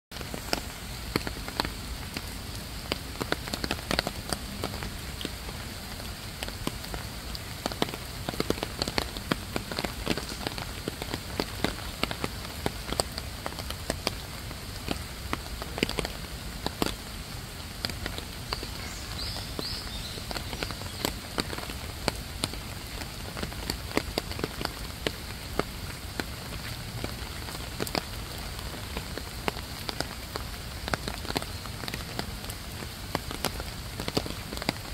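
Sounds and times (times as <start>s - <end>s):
water dripping on hard surface: 0.2s - 34.9s.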